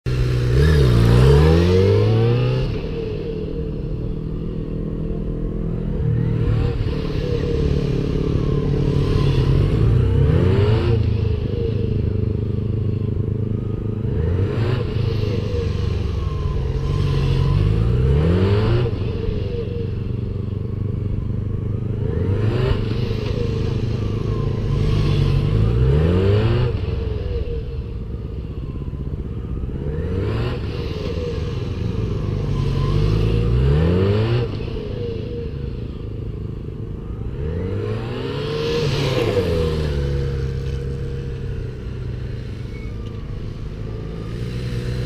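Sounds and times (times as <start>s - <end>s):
motorcycles passing by: 0.1s - 45.0s.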